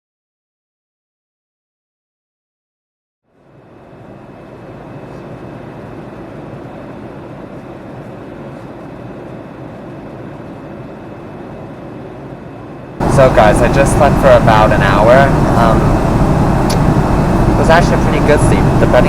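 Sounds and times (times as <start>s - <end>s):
airplane cabin noise: 3.3s - 19.0s.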